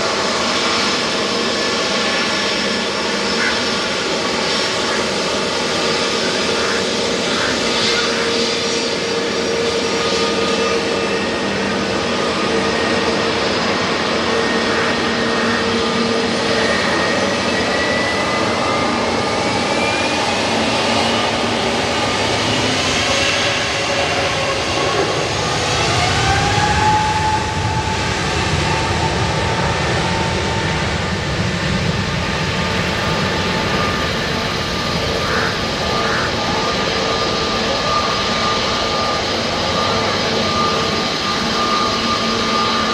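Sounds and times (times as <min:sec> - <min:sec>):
jet engines passing close: 0:00.0 - 0:42.9.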